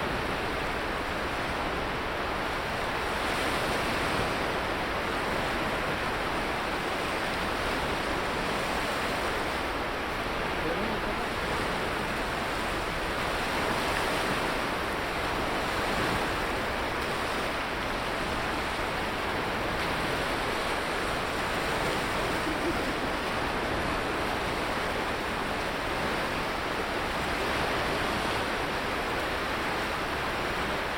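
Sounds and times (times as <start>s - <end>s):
waves washing onto beach: 0.0s - 30.9s.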